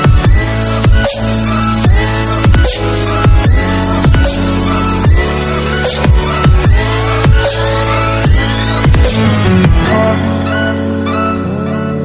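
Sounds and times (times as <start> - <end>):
heavy kick drums: 0.0 - 10.2
electronic dance music: 0.0 - 11.6
sustained synth chords: 0.0 - 12.0.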